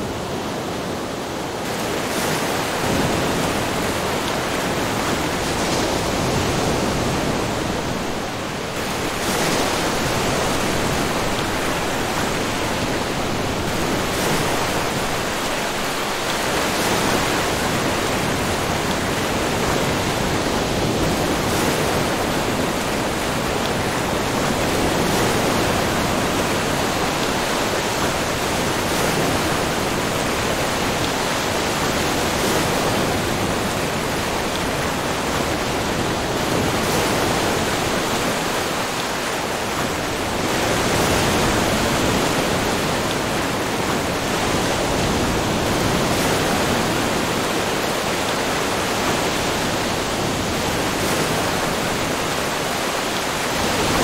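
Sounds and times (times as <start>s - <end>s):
waves washing onto sand: 0.0s - 54.0s.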